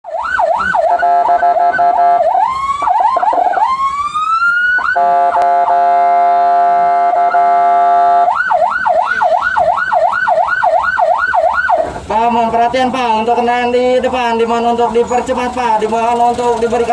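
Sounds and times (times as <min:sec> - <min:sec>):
ambulance siren: 0:00.0 - 0:16.9.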